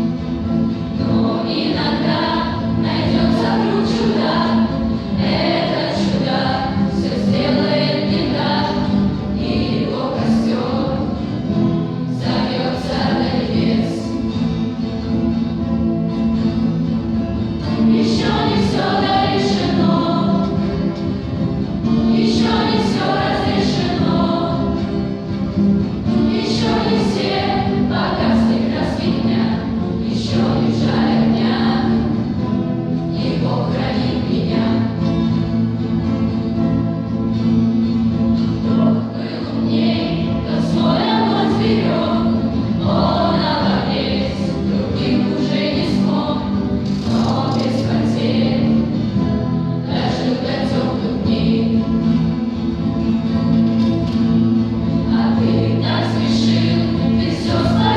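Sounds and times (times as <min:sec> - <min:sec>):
vocal ensemble singing: 0:00.6 - 0:14.6, 0:17.6 - 0:36.1, 0:38.2 - 0:53.5, 0:54.2 - 0:57.9.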